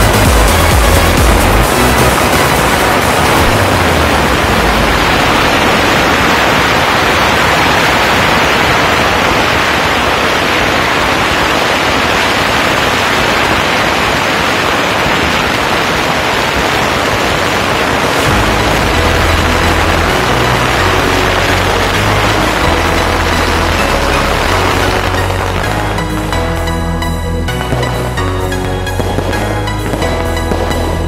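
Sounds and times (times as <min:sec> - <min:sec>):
firecrackers crackling: 0:00.0 - 0:31.0.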